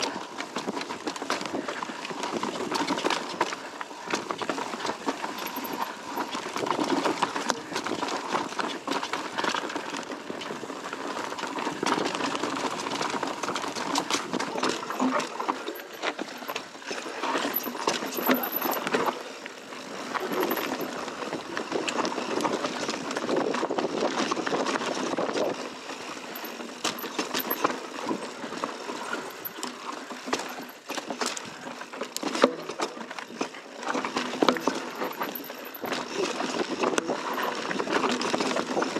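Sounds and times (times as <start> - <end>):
bike rattling and knocking: 0.0 - 38.9
bike tyres crunching over dirt: 0.0 - 38.9.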